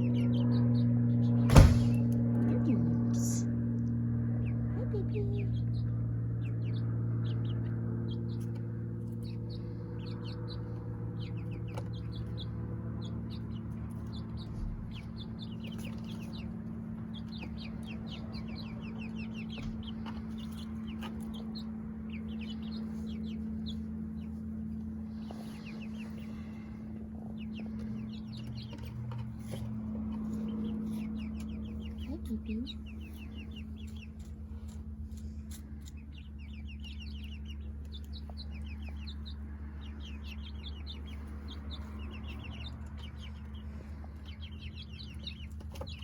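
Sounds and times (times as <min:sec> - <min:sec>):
chicks peeping: 0:00.0 - 0:46.0
steady low hum: 0:00.0 - 0:46.0.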